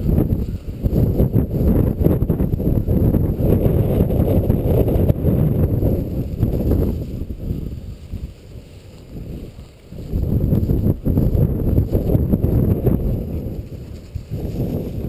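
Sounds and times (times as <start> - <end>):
walking through dry grass: 0.0 - 15.0
wind buffeting microphone: 0.0 - 15.0.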